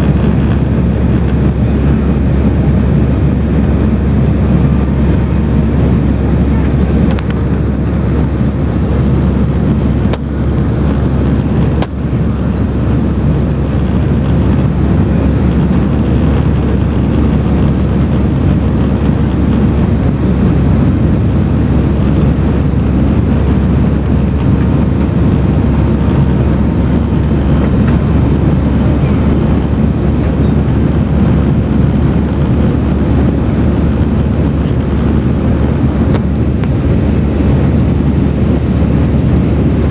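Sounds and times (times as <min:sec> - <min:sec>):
air rushing past fuselage: 0:00.0 - 0:39.9
constant low hum: 0:00.0 - 0:39.9
jet engines running: 0:00.0 - 0:39.9.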